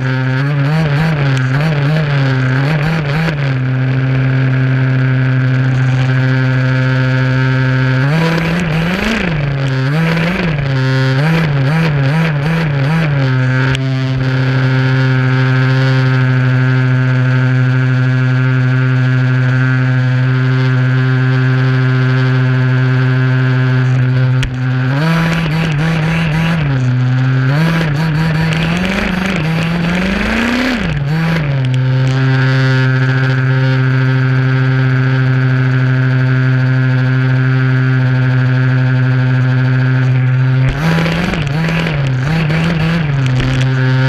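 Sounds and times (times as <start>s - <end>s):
model buggy engine running: 0.0s - 44.0s.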